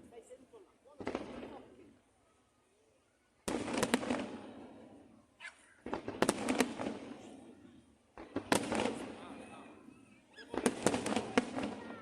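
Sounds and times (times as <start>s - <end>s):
fireworks bursting with echo: 1.0s - 2.0s, 3.4s - 12.0s.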